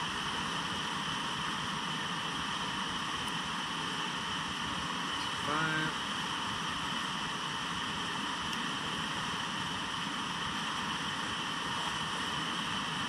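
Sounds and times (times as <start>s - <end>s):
muffled waterfall roar: 0.0s - 13.0s.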